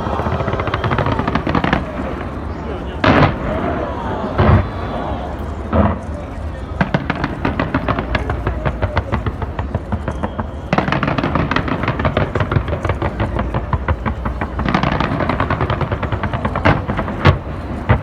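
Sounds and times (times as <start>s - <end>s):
fireworks crackling and popping: 0.0s - 18.0s
heavy firework bangs: 0.0s - 18.0s.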